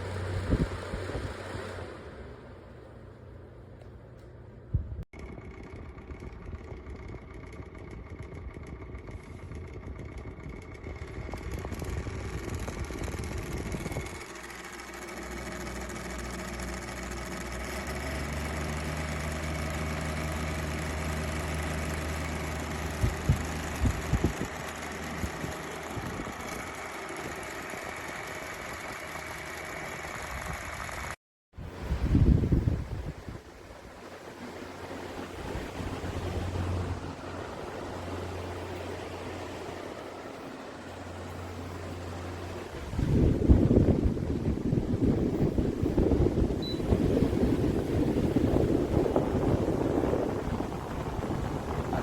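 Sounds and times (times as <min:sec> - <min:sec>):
table fan running: 0:00.0 - 0:52.0.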